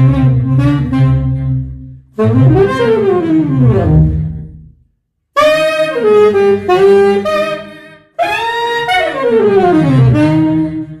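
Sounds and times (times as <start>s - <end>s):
electronic saxophone notes: 0.0s - 4.6s, 5.4s - 11.0s.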